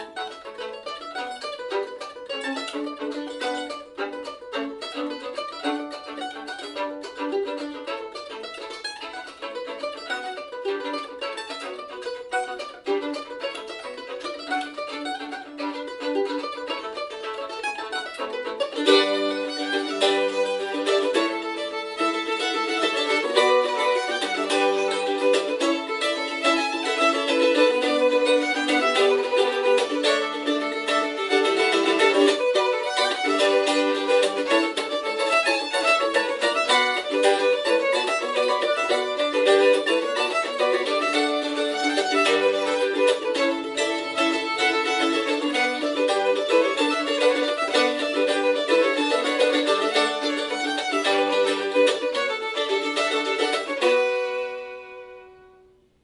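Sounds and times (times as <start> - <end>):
fiddle playing a reel: 0.0 - 55.7
picked mandolin: 0.0 - 56.0.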